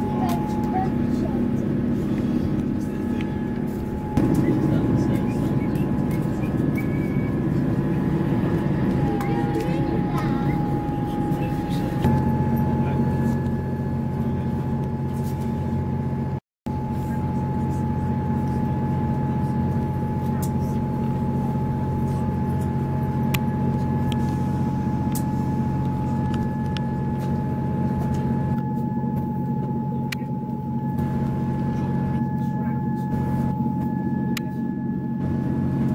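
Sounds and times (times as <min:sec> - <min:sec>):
constant whine: 0:00.0 - 0:35.9
train engine drone: 0:00.0 - 0:35.9.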